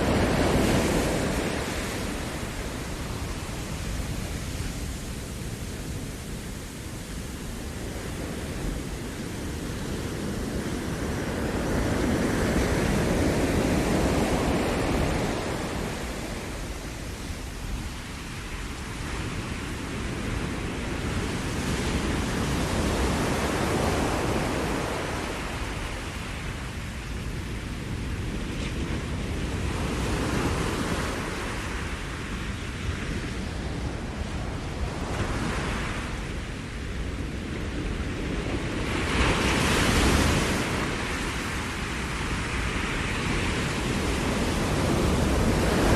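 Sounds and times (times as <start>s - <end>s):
ocean surf breaking: 0.0s - 27.7s, 29.0s - 45.9s.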